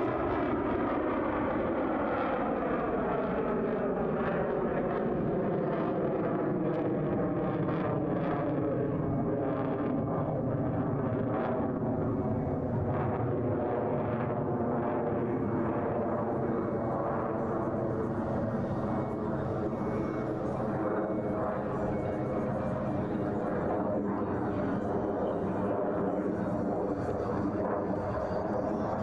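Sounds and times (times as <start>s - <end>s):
fighter jet roaring overhead: 0.0s - 29.0s.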